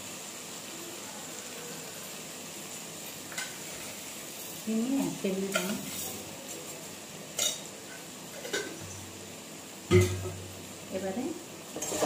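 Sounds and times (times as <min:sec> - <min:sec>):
okra sizzling in a pan: 0:00.0 - 0:12.0.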